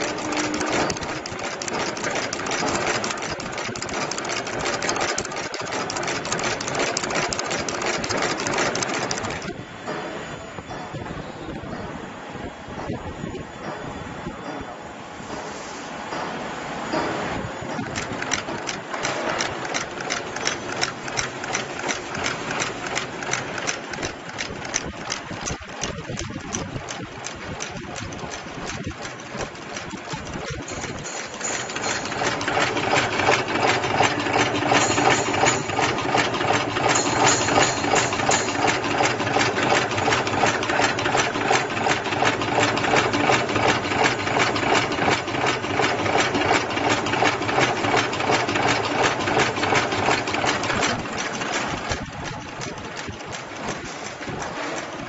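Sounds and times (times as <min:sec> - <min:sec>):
chain making machine clattering: 0:00.0 - 0:09.6, 0:16.9 - 0:55.0.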